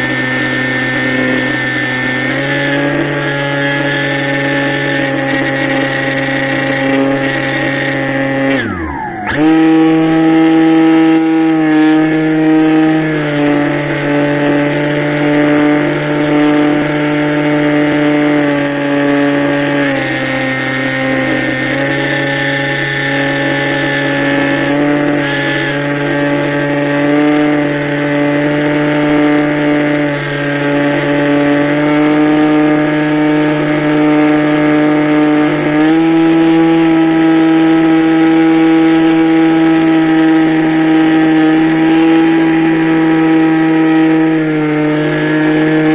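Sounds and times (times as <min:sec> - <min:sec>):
model airplane motor buzzing: 0:00.0 - 0:45.9.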